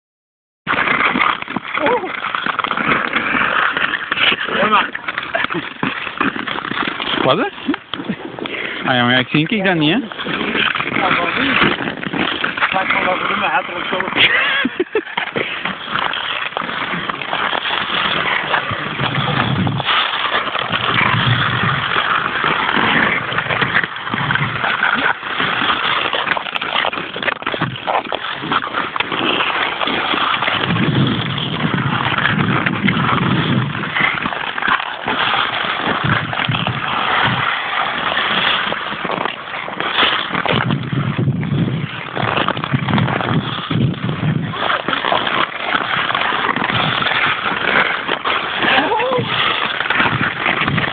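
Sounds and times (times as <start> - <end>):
ice skates scraping on ice: 0.7 - 50.9.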